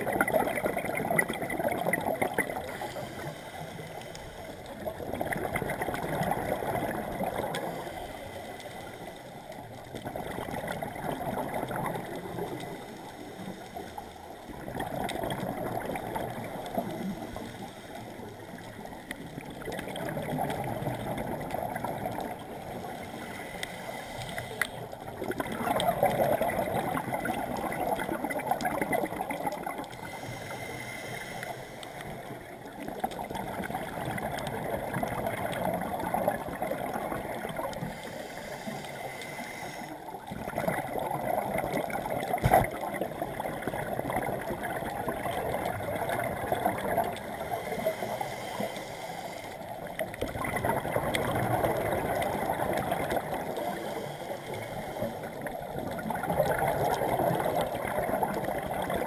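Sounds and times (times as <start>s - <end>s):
underwater exhaled bubbles gurgling: 0.0s - 59.0s.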